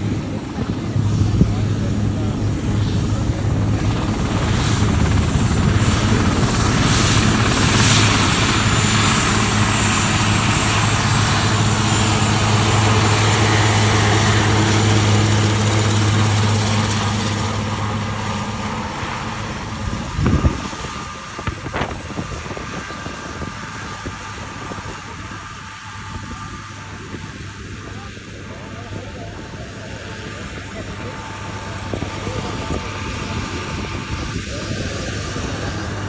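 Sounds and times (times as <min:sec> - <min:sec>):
helicopter engines whining: 0:00.0 - 0:36.0
helicopter rotors turning: 0:00.0 - 0:36.0.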